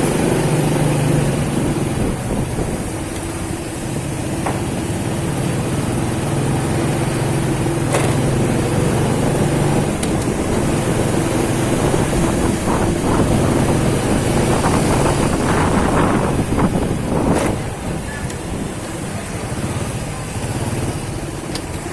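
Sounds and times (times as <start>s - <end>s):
motorcycle engine riding: 0.0s - 21.9s
road and wind noise: 0.0s - 21.9s.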